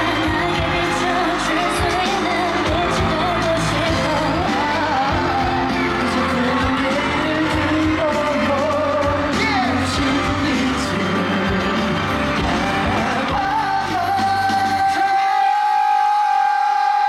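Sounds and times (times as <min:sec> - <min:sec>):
live pop band: 0:00.0 - 0:17.0
person singing: 0:00.0 - 0:17.0.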